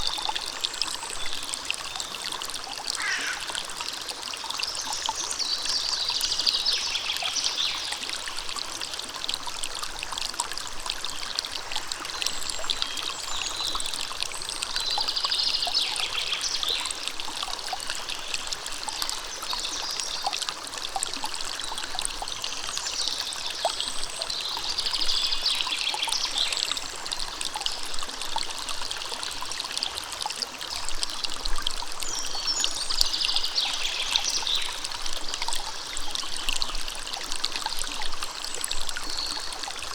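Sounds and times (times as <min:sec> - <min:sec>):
stream running and trickling: 0:00.0 - 0:39.9.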